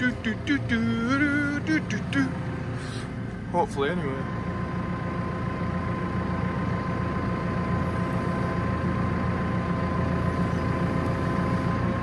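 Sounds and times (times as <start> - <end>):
diesel engine running: 0.0 - 12.0
thin steady whine: 0.0 - 12.0.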